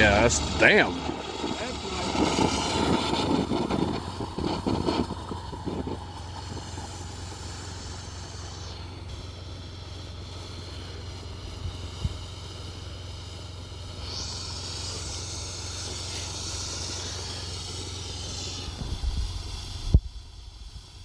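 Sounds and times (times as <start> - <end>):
firework crackling and popping: 0.0 - 21.0
steady low hum: 0.0 - 21.0.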